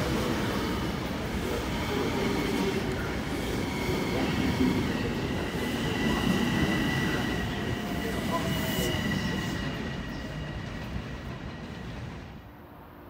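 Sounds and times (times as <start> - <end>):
train wheels rumbling on rails: 0.0 - 12.6.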